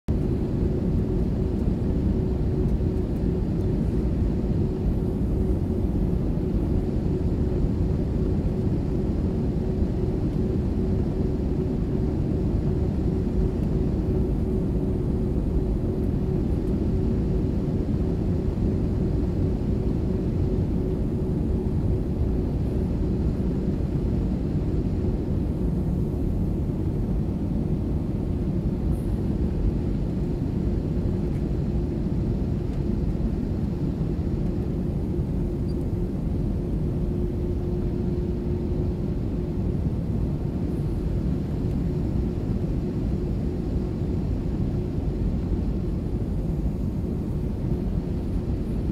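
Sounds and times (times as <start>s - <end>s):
airliner cabin engine rumble: 0.1s - 48.9s
steady hum: 0.1s - 48.9s.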